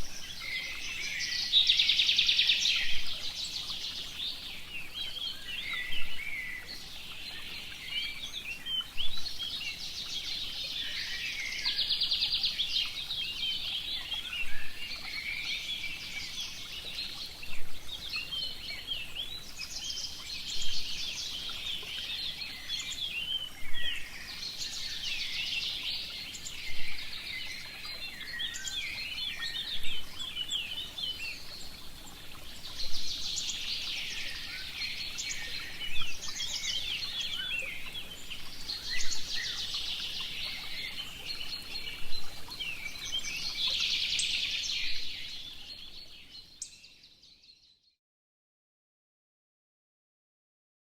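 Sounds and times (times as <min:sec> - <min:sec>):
small birds chirping and trilling: 0:00.0 - 0:48.0.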